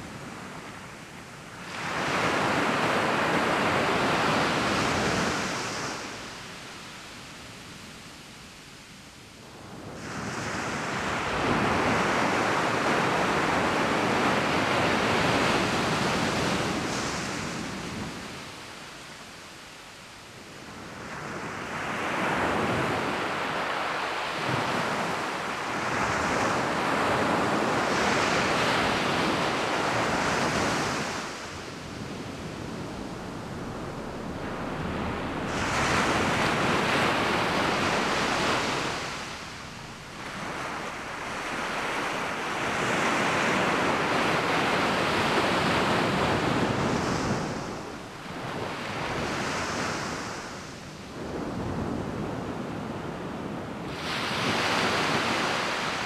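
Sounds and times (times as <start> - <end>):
waves washing up beach: 0.0 - 8.6, 9.3 - 56.0.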